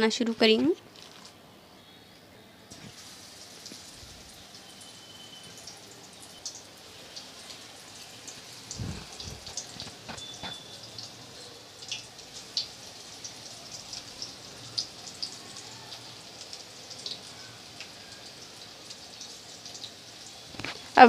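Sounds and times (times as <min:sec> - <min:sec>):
food deep-frying in oil: 0:02.7 - 0:21.0.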